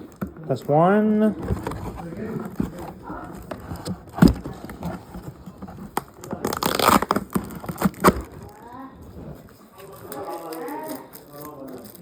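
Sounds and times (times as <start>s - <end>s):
cardboard and plastic rustling: 0.0s - 12.0s
tape peeling and tearing: 1.6s - 8.7s, 9.4s - 12.0s.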